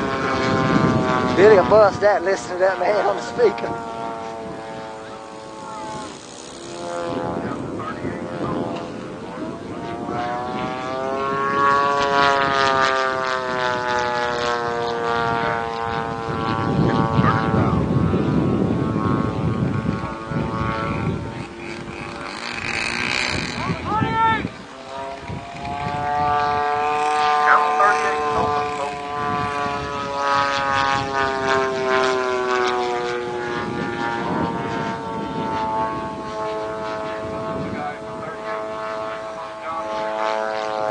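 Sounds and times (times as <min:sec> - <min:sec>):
model airplane engine and propeller: 0:00.0 - 0:40.9.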